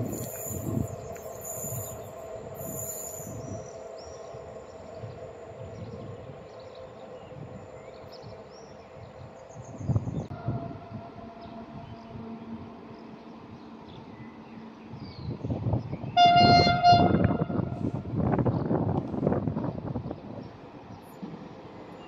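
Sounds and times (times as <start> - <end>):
electric locomotive hum: 0.0 - 22.0.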